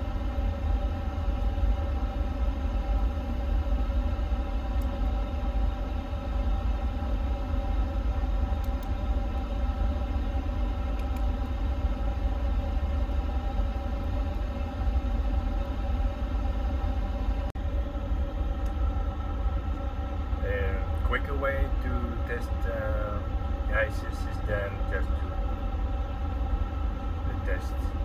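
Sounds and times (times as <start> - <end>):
low rumble and hum of cockpit: 0.0 - 28.0.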